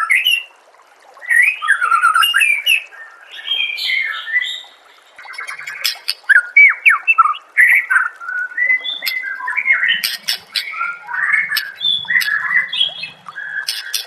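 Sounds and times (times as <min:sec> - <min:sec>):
songbird singing: 0:01.3 - 0:14.0.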